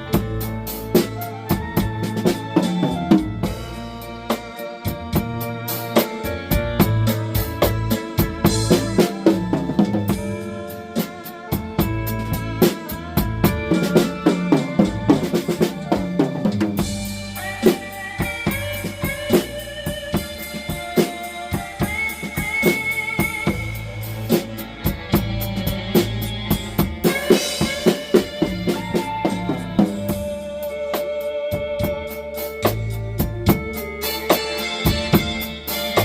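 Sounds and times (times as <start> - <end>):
blues backing track: 0.0 - 36.0
drum kit blues groove: 0.0 - 36.0.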